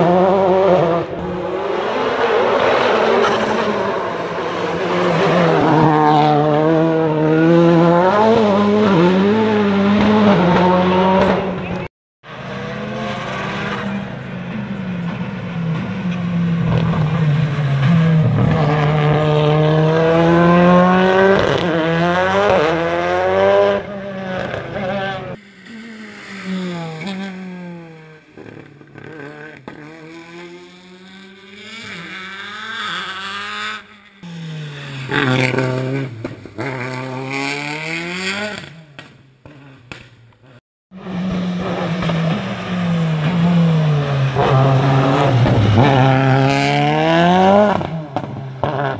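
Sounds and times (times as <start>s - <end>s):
rally car engine accelerating: 0.0s - 48.9s.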